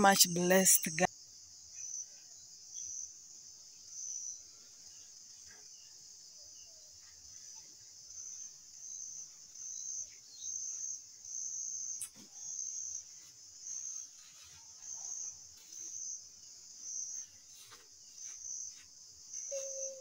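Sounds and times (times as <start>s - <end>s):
insect chirping trill: 0.0s - 20.0s.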